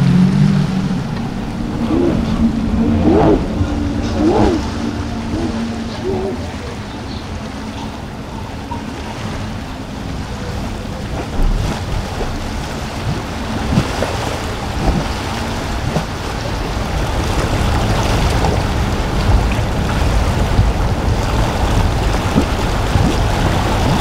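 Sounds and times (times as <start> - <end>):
outboard engines droning: 0.0 - 24.0
surf washing: 0.0 - 24.0
wind buffeting microphone: 0.0 - 24.0.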